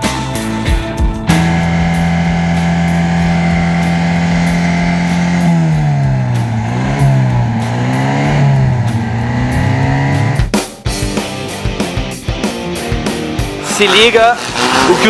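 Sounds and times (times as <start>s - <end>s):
buggy engine revving: 0.0s - 10.5s, 11.2s - 15.0s.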